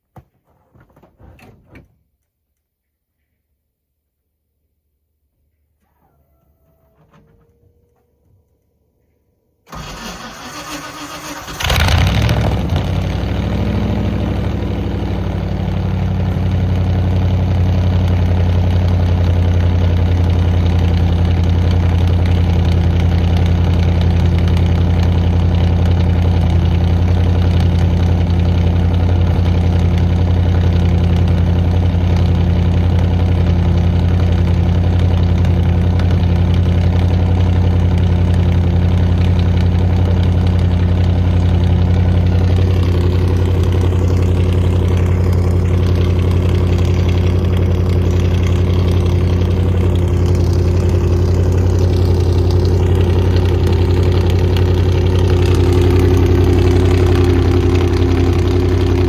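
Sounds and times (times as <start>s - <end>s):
truck engine idling: 9.7s - 59.0s.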